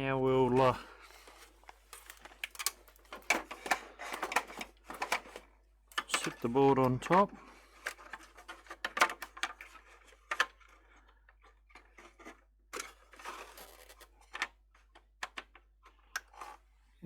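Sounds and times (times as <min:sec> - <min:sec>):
small plastic clicks and knocks: 0:01.6 - 0:16.6.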